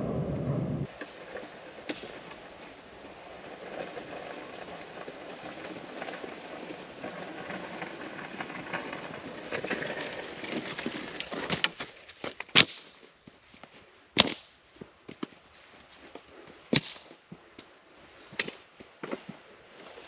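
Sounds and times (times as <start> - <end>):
rustling: 0.8 - 20.0
firewood cracking: 0.9 - 13.2, 14.2 - 14.5, 15.1 - 20.0.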